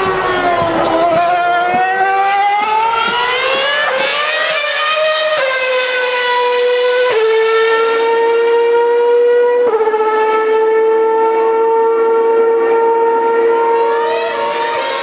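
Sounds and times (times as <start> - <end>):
racing car engine screaming: 0.0 - 8.8, 11.0 - 15.0.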